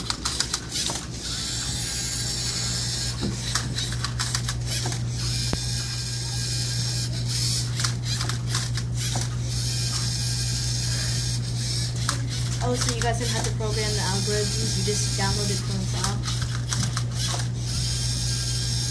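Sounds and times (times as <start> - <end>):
small motors whirring: 0.0 - 18.9
steady low hum: 0.0 - 18.9.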